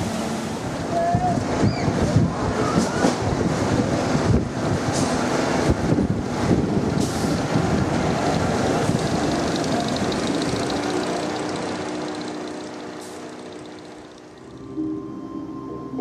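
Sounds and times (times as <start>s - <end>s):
roller coaster rumbling on track: 0.0s - 14.9s.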